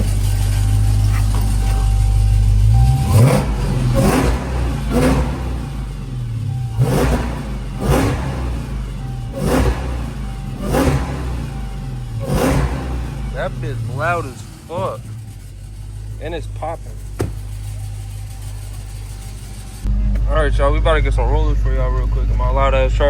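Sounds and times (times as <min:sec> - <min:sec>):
car engine revving: 0:00.0 - 0:23.0
exhaust rattle: 0:00.0 - 0:23.0.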